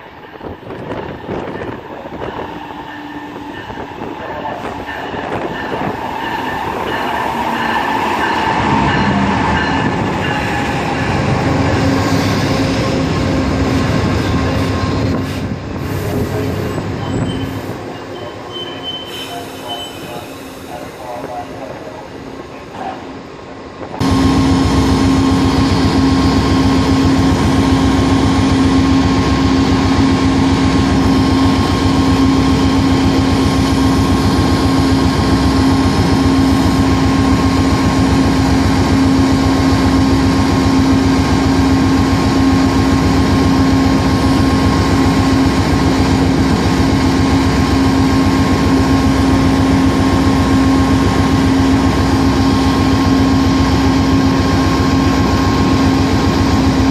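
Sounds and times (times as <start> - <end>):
diesel locomotive engine droning: 0.0 - 56.9.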